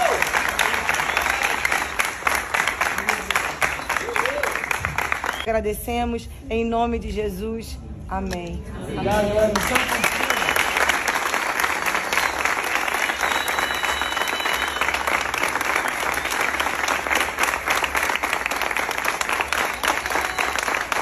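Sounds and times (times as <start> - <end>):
crowd applauding: 0.0 - 5.5, 9.1 - 21.0.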